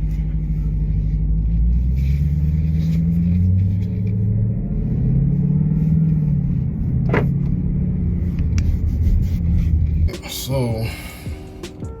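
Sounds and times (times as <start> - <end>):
car exhaust deep rumble: 0.0 - 12.0.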